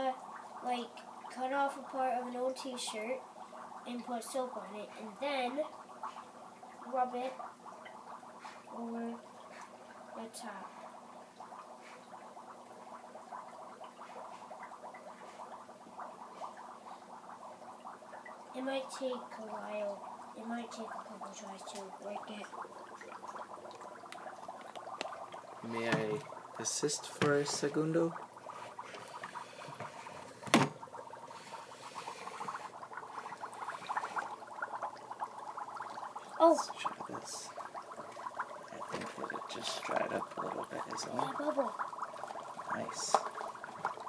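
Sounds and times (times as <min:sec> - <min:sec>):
dry ice bubbling in water: 0:00.0 - 0:44.0.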